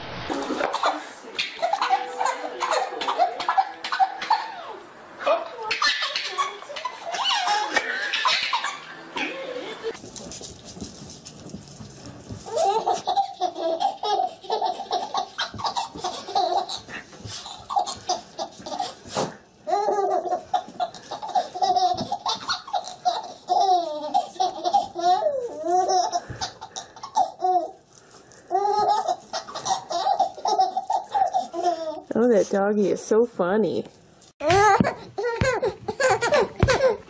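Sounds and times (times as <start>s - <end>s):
baby laughing: 0.4s - 4.8s, 5.4s - 10.0s, 12.4s - 27.8s, 28.5s - 32.1s, 34.4s - 37.0s.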